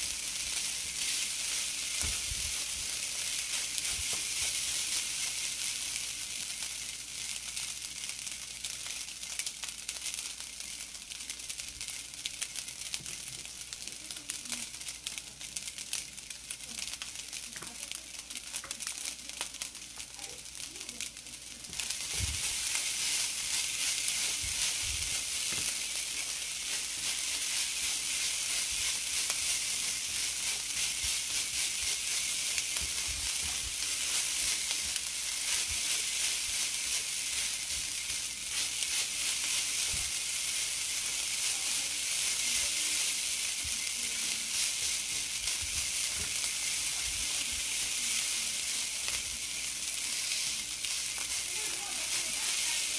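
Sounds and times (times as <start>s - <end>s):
rice sizzling in a pan: 0.0s - 52.9s.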